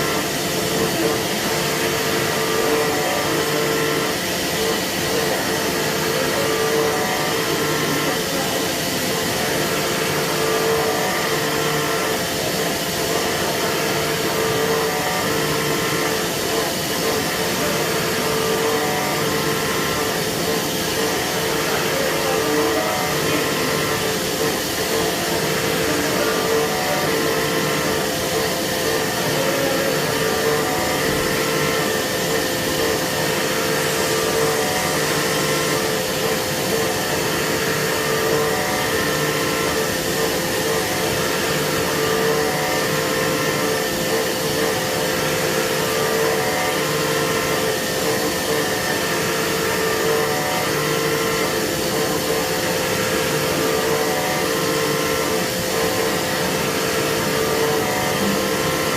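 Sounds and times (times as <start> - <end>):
cnc machine whining: 0.0 - 58.9.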